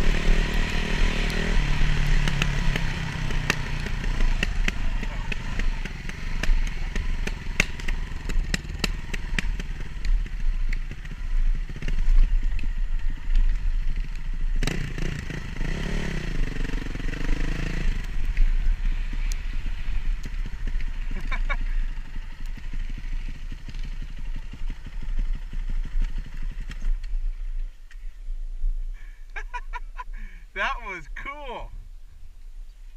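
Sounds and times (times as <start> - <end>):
dirt bike engine running: 0.0 - 27.7.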